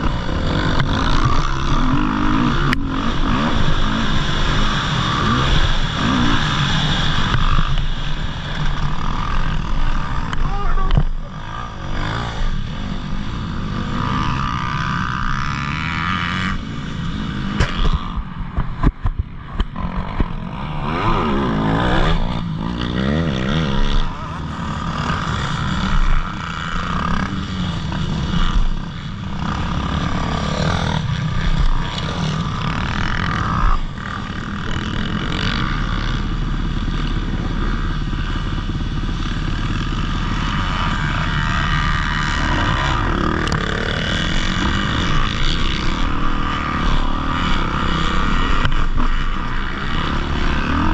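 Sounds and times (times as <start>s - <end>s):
dirt bike engines revving: 0.0s - 50.9s.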